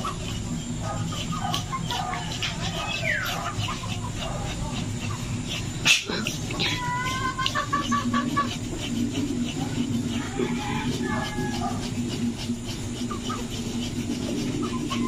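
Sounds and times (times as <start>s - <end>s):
animal calling: 0.0s - 15.0s
knife scraping pig hide: 0.0s - 15.0s.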